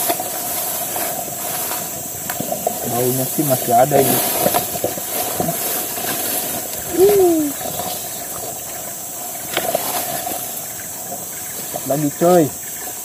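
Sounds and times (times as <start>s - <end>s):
insects droning: 0.0s - 13.0s
rustling of grass and leaves: 0.0s - 13.0s.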